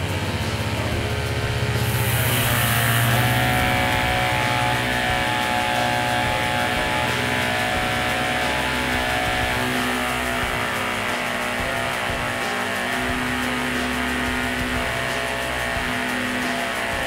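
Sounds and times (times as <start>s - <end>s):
water pump motor hum: 0.0s - 17.0s.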